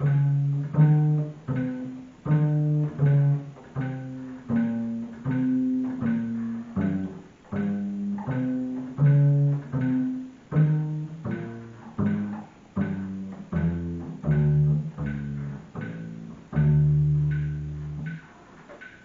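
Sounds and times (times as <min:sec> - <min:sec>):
double bass plucked notes: 0:00.0 - 0:19.0.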